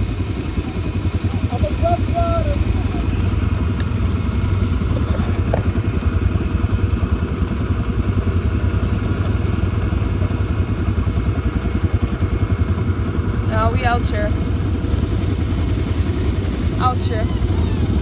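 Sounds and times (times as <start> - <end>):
other quad bikes running: 0.0 - 18.0
quad bike engine running: 0.0 - 18.0.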